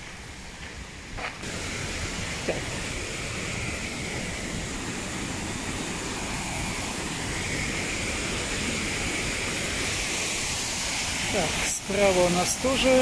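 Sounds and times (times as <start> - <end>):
river water rushing over rapids: 0.1 - 13.0.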